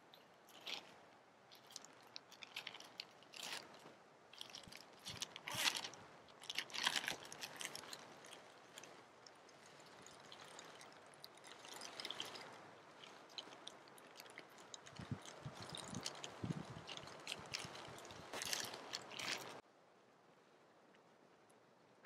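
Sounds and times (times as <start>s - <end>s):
plastic bag crinkling: 1.5s - 19.6s.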